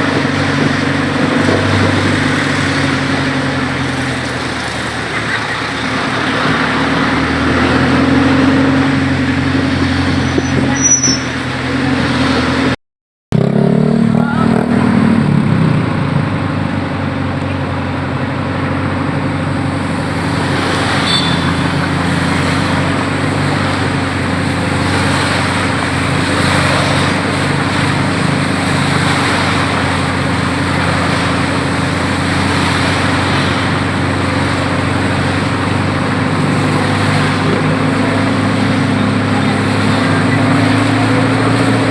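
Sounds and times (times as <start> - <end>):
road noise: 0.0 - 41.9
vehicle engines running: 0.0 - 41.9.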